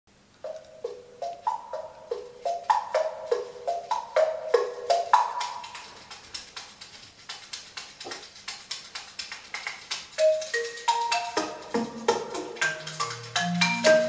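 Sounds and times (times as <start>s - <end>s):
wooden percussion melody: 0.4s - 14.0s.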